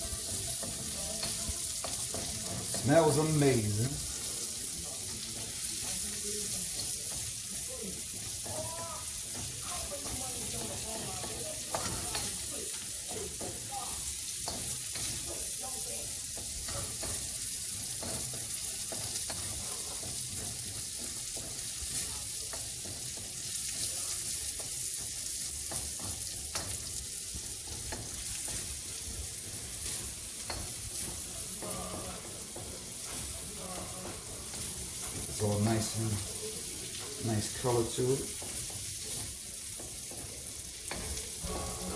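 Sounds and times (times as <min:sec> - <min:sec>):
utensil stirring and scraping: 0:00.0 - 0:41.9
vegetables sizzling in oil: 0:00.0 - 0:41.9.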